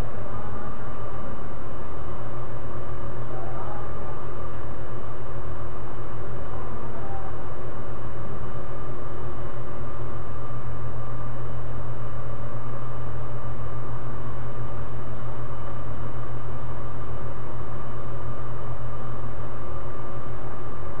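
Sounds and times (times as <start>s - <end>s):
faint steady tones: 0.0s - 21.0s
steady low hum: 0.0s - 21.0s.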